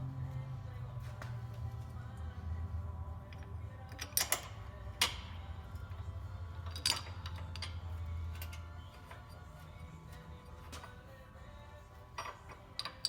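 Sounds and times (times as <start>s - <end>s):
low background music: 0.0s - 13.0s.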